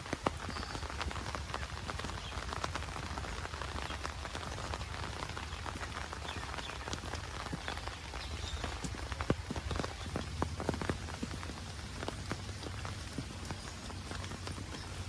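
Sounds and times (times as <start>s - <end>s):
heavy rain hiss: 0.0s - 15.0s
raindrops ticking on surfaces: 0.0s - 15.0s.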